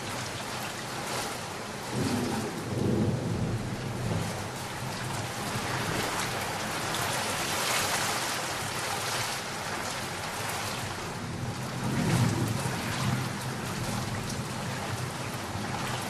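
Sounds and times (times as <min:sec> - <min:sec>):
heavy rain pattering: 0:00.0 - 0:16.0.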